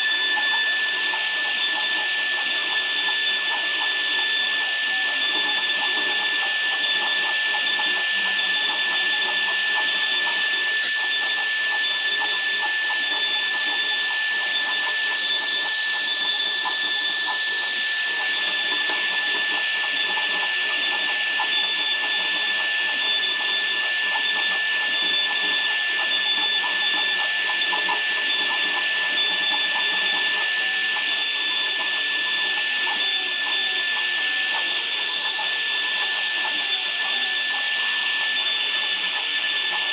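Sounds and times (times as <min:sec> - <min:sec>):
woodworking power tool whining: 0:00.0 - 0:39.9.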